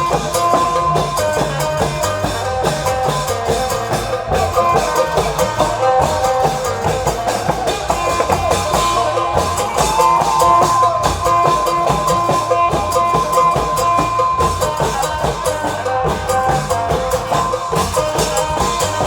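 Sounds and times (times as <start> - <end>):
deep drum beat: 0.0 - 19.0
fast dense drumming: 0.0 - 19.0.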